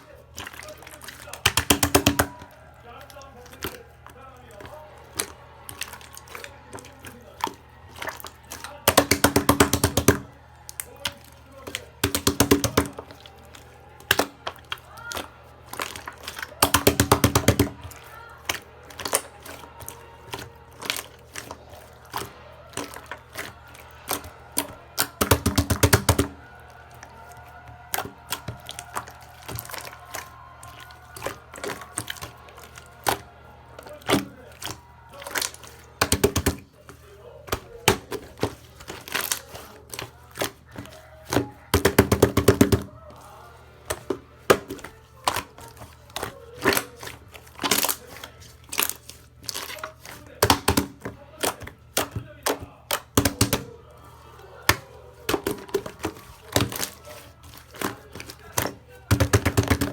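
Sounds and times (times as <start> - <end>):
slime clicks and squelches: 0.0 - 59.9.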